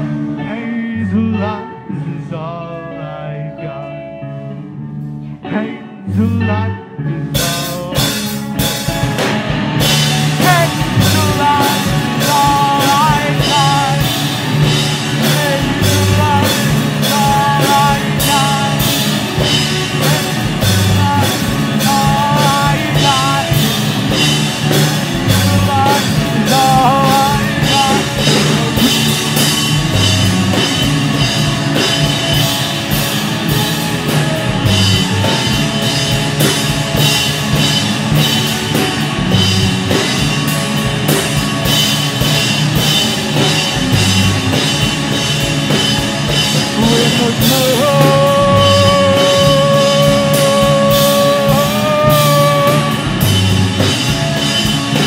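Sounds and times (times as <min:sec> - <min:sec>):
lead guitar melody bending: 0:00.0 - 0:55.0
rock band playing: 0:00.0 - 0:55.0.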